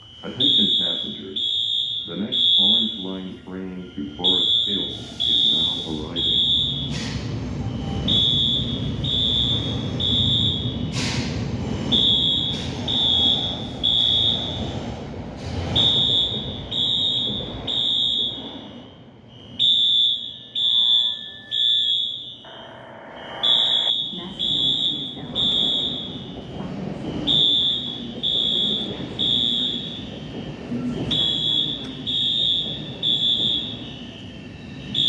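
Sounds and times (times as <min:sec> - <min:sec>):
fire alarm high beeps: 0:00.0 - 0:35.0.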